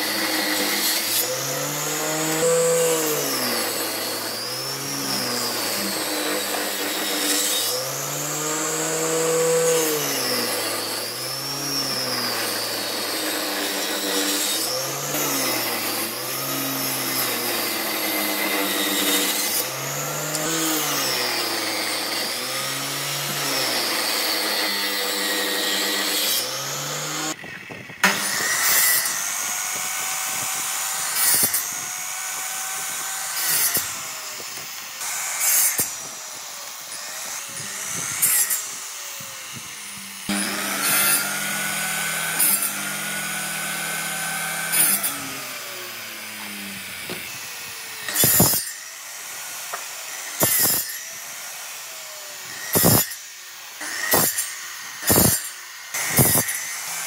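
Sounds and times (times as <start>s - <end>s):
woodworking power tool running: 0.0s - 57.0s.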